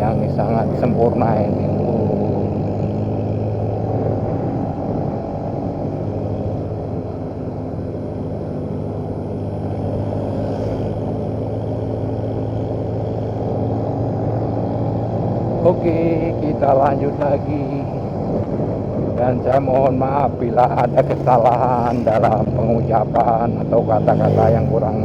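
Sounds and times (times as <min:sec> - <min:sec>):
motorcycle engine running: 0:00.0 - 0:25.0
road and wind noise: 0:00.0 - 0:25.0.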